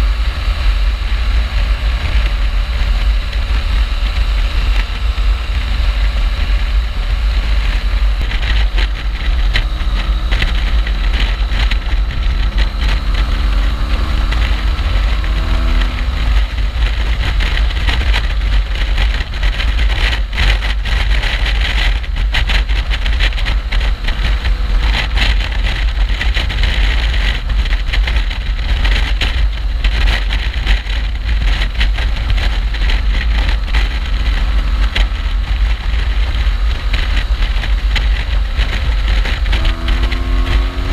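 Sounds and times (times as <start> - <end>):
motorcycle engine accelerating: 0.0 - 40.9
wind buffeting microphone: 0.0 - 40.9.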